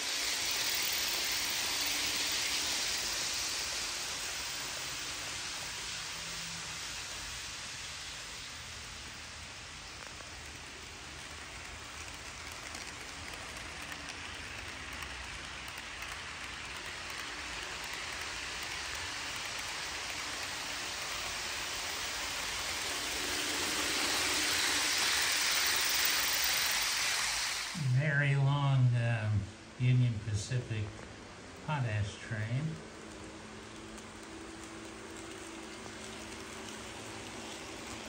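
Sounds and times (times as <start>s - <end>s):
model trains rolling on track: 0.0s - 38.0s.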